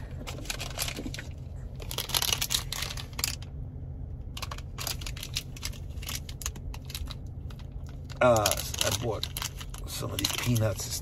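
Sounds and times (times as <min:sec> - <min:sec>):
low steady hum: 0:00.0 - 0:11.0
plastic snack packet crinkling: 0:00.3 - 0:03.4, 0:04.4 - 0:10.9.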